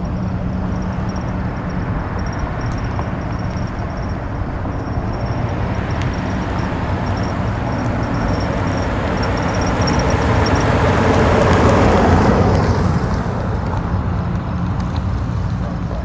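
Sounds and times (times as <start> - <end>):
distant highway traffic: 0.0 - 16.0.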